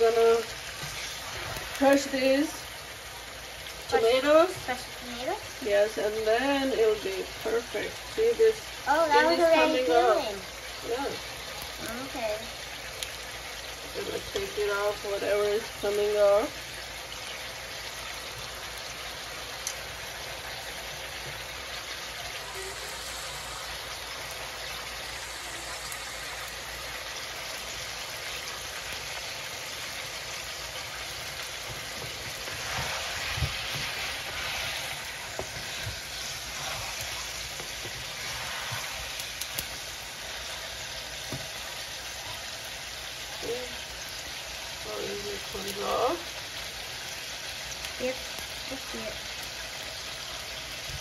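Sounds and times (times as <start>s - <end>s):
chicken sizzling in a pan: 0.0s - 51.0s.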